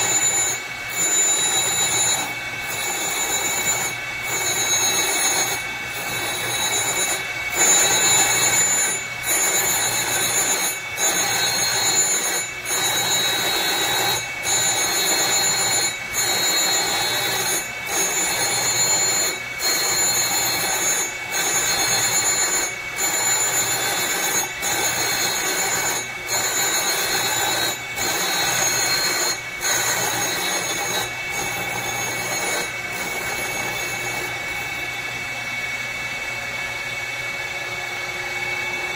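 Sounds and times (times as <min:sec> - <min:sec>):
grinding wheel on metal plate: 0:00.0 - 0:35.1
high spindle whine: 0:00.0 - 0:38.9.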